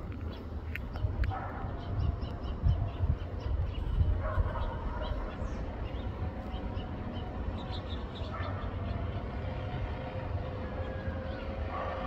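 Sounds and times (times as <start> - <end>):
distant traffic hum: 0.0 - 12.0
small birds chirping: 0.0 - 12.0.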